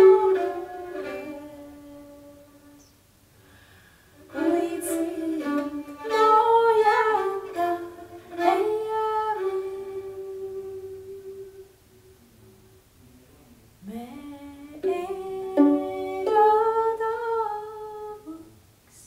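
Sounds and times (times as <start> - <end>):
woman singing unaccompanied: 0.0 - 3.0, 4.2 - 11.8, 13.8 - 19.0.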